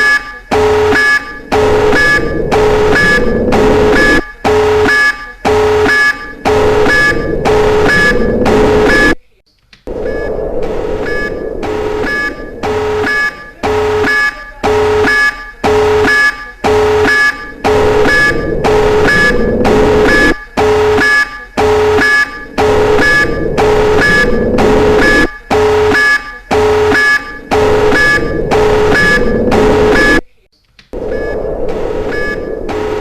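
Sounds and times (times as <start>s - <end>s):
pulsing electronic alarm: 0.0s - 9.2s, 9.9s - 30.2s, 31.0s - 33.0s.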